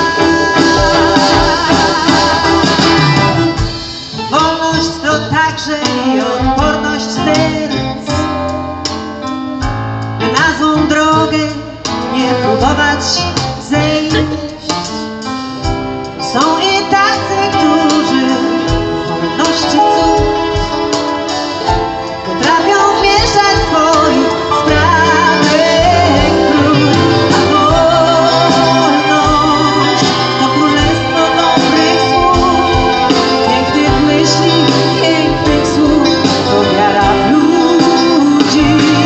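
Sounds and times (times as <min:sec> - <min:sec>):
woman singing into a microphone: 0:00.0 - 0:03.1, 0:04.3 - 0:08.4, 0:10.2 - 0:15.1, 0:16.2 - 0:20.7, 0:22.3 - 0:39.0
orchestra strings: 0:00.0 - 0:39.0
piano: 0:00.0 - 0:39.0.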